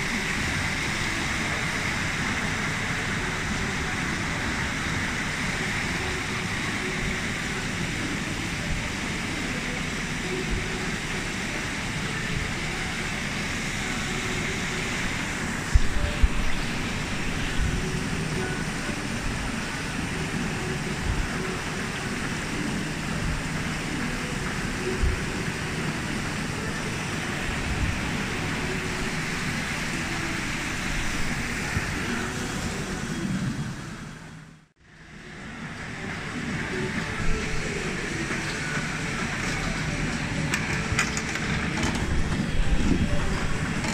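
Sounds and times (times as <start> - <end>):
conveyor machine noise: 0.0 - 43.9
faint hum: 0.0 - 43.9.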